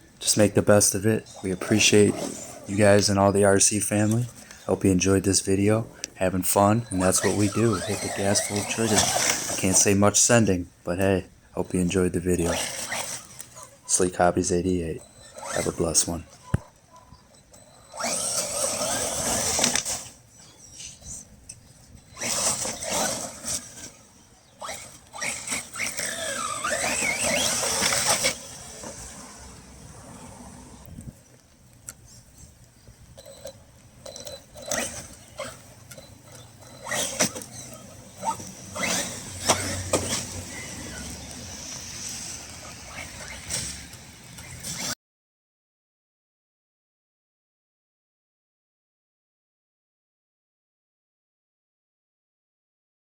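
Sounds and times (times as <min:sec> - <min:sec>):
rc truck motor whining: 0:00.0 - 0:10.3, 0:11.0 - 0:45.0.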